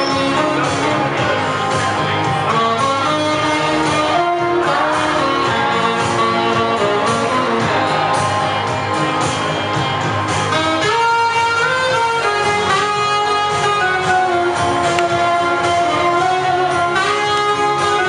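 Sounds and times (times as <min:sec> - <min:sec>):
backing track with guitar: 0:00.0 - 0:18.0
saxophone melody: 0:00.0 - 0:18.0.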